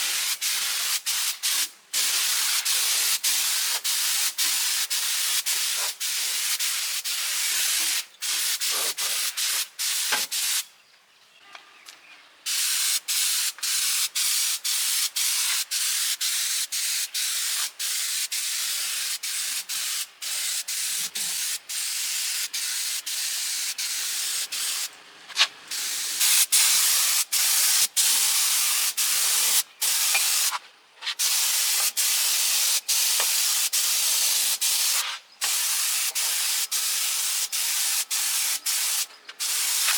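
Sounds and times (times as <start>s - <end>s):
compressed air spraying: 0.0s - 10.6s, 12.5s - 39.9s.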